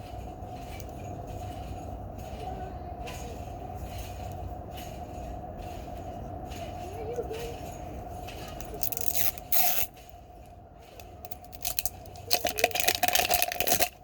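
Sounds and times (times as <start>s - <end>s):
constant hum: 0.0s - 14.0s.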